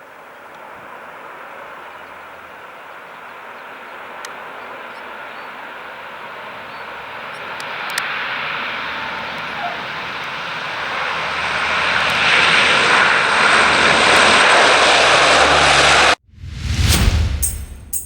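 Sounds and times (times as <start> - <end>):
military aircraft engines roaring: 0.3 - 16.2.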